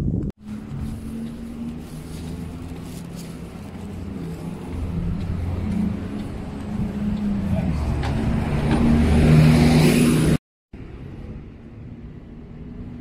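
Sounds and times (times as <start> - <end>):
street noise: 0.0 - 13.0
vehicle engine humming: 0.0 - 13.0.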